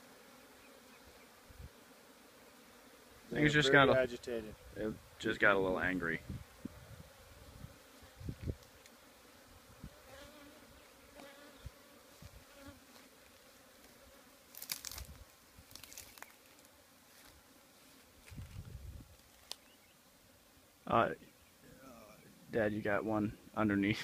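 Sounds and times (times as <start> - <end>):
honey bees buzzing: 0.0 - 23.9.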